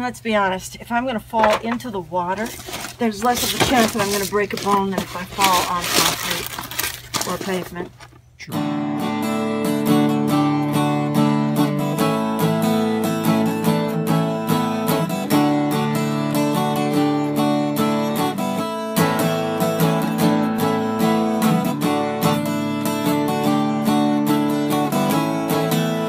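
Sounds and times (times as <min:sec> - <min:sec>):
strummed guitar: 0:01.4 - 0:26.0.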